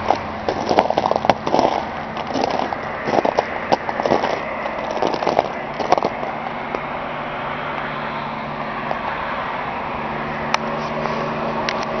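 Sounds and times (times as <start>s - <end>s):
broad rushing noise: 0.0s - 12.0s
low engine hum: 0.0s - 12.0s.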